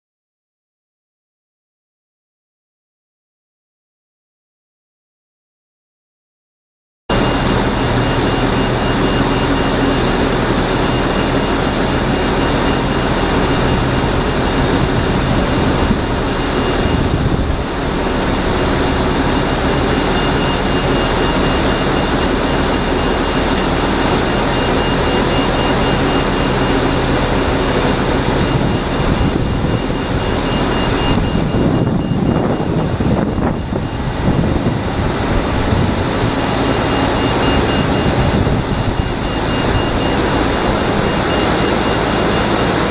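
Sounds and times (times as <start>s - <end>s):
fast-pulsing high tone: 7.1s - 42.9s
jet aircraft whine: 7.1s - 42.9s
pushback tug idling: 7.1s - 42.9s.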